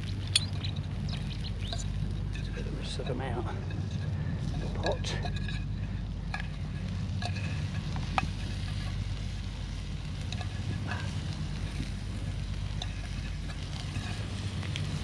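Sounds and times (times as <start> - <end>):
gas stove burner running: 0.0 - 15.0.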